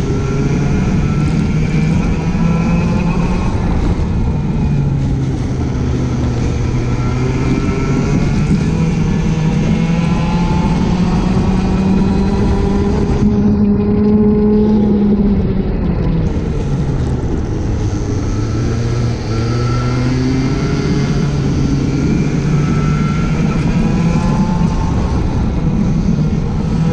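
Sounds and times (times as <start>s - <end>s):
go-kart engine running hard: 0.0s - 26.9s.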